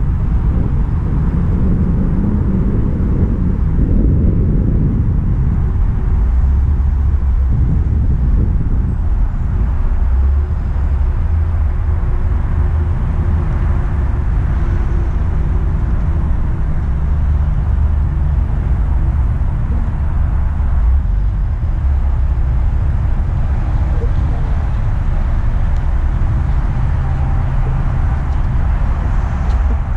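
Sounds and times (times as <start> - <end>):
car engine rumble: 0.0 - 29.9
road noise: 0.0 - 29.9.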